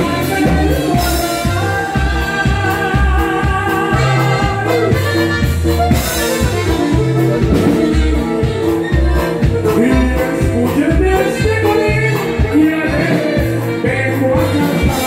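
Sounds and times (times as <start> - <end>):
bass line: 0.0 - 15.0
drum beat: 0.0 - 15.0
live band music: 0.0 - 15.0.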